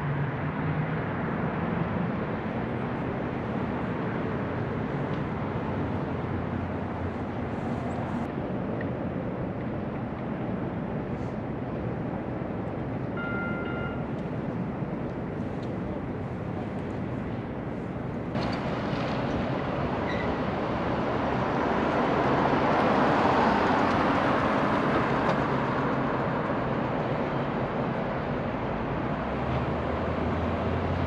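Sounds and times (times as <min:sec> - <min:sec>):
passing vehicles: 0:00.0 - 0:31.0.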